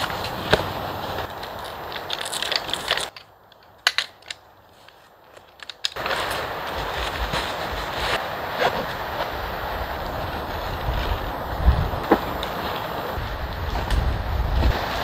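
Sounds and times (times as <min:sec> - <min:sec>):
nylon sack crinkling: 0:00.0 - 0:03.2, 0:04.7 - 0:15.0.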